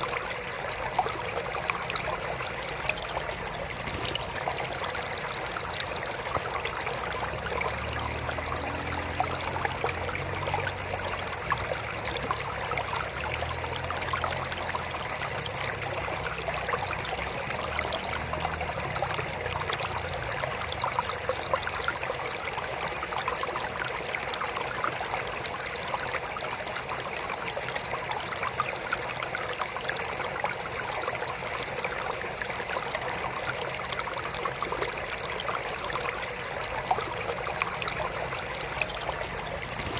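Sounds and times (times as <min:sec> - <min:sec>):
water trickling into aquarium: 0:00.0 - 0:39.9.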